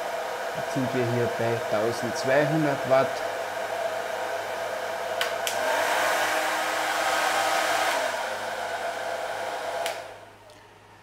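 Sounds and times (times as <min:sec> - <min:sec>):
hair dryer blowing: 0:00.0 - 0:10.3.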